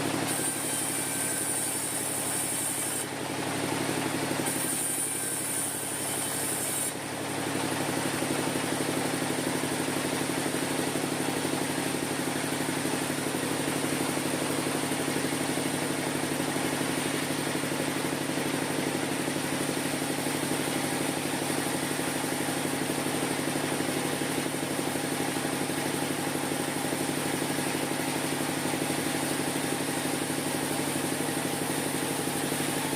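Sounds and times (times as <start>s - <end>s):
sawmill machinery humming: 0.0s - 32.9s.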